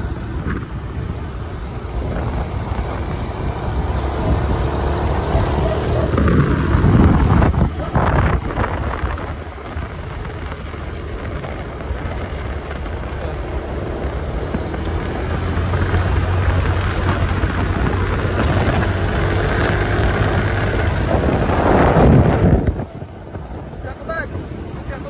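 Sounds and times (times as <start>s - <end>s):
road and wind noise: 0.0s - 25.0s
vehicle engine rumble: 0.0s - 25.0s.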